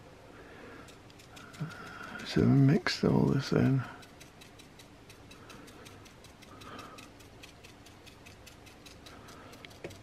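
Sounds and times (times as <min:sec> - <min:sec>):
paintbrush brushing: 0:00.7 - 0:10.0
faint even ticking: 0:00.8 - 0:10.0.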